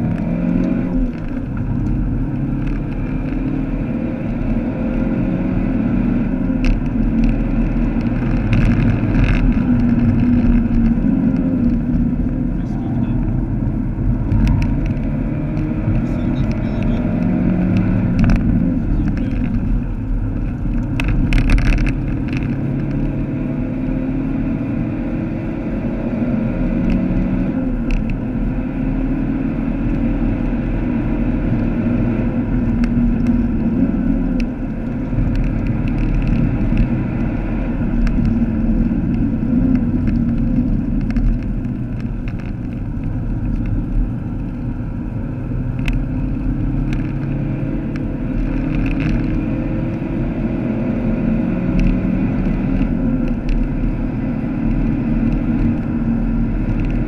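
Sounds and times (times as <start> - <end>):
car engine accelerating: 0.0 - 57.0
road and tyre rumble: 0.0 - 57.0.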